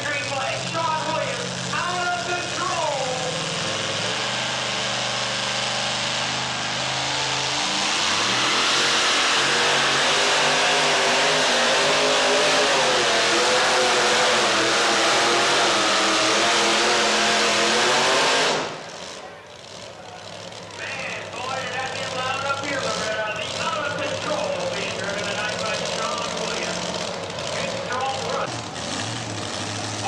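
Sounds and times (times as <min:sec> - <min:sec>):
pickup truck engine revving: 0:00.0 - 0:30.0.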